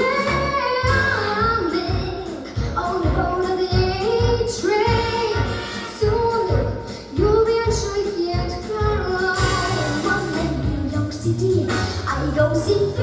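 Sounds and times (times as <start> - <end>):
girl singing swing jazz: 0.0 - 13.0.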